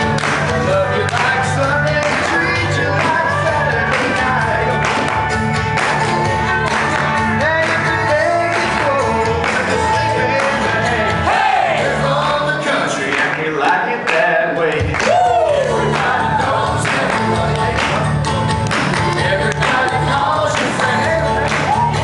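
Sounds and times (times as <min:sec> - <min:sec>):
country band playing: 0:00.0 - 0:22.0
man singing: 0:00.0 - 0:22.0.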